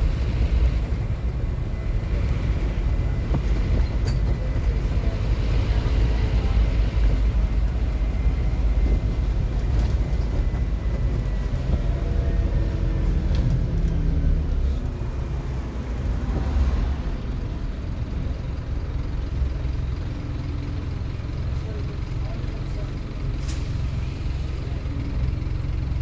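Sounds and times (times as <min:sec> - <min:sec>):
bus diesel engine rumbling: 0:00.0 - 0:26.0.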